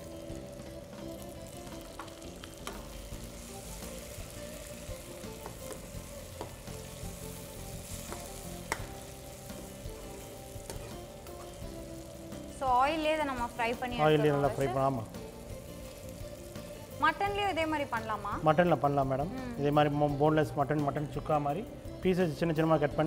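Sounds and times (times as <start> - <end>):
chicken sizzling in oil: 0.0 - 22.8.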